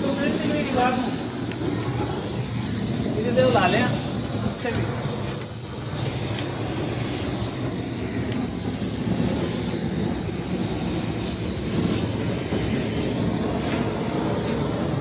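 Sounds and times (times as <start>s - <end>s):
gas flame gun rushing: 0.0s - 15.0s.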